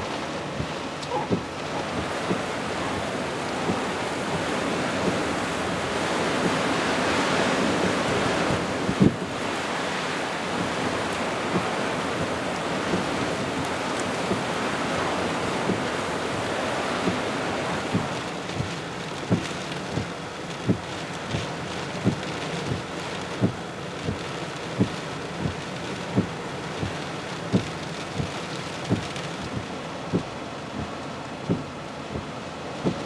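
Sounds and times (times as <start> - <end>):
wind buffeting microphone: 0.0 - 21.4, 22.0 - 33.0
surf: 0.0 - 33.0.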